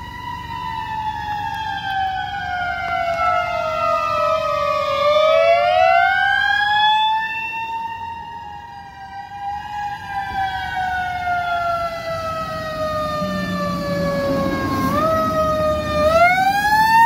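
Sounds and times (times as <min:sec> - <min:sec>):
emergency sirens wailing: 0:00.0 - 0:17.0.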